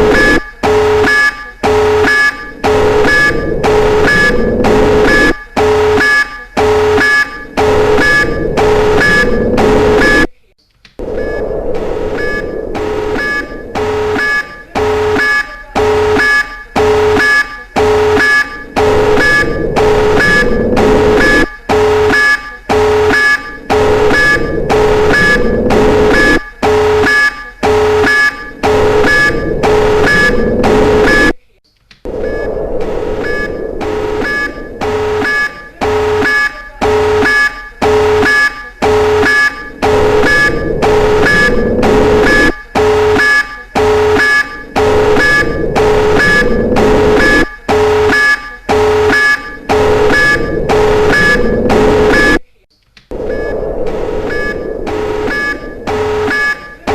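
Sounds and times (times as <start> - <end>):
pulsing electronic alarm: 0.0 - 10.3, 11.0 - 31.4, 32.1 - 52.4, 53.1 - 56.9.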